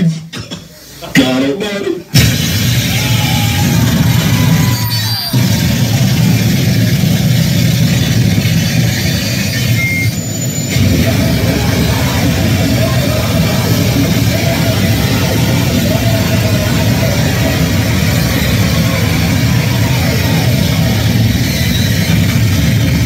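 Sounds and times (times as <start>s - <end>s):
distorted noise music: 0.0s - 23.0s.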